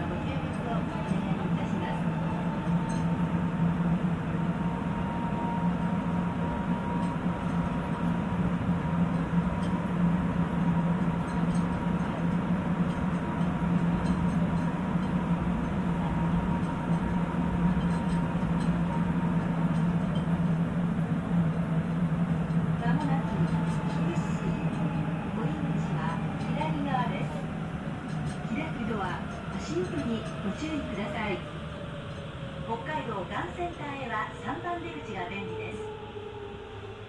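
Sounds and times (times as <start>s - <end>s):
faint constant whine: 0.0s - 31.4s
train running rumble: 0.0s - 37.0s.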